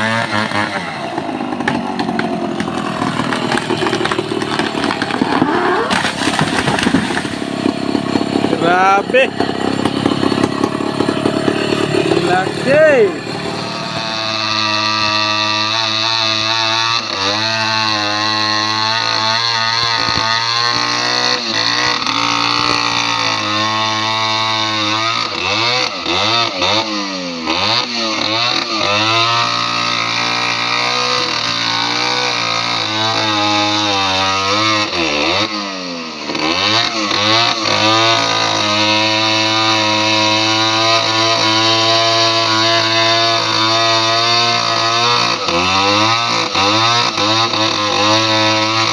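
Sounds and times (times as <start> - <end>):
chainsaw engine running: 0.0 - 48.9.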